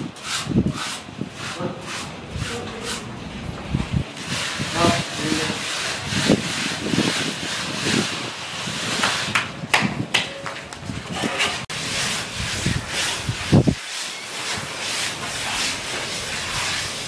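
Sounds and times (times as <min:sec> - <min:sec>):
float scraping cement render: 0:00.2 - 0:03.1, 0:04.1 - 0:09.6, 0:11.1 - 0:17.0.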